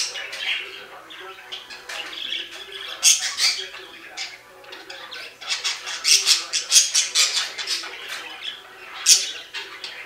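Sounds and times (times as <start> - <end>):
budgerigars squawking: 0.0 - 10.0.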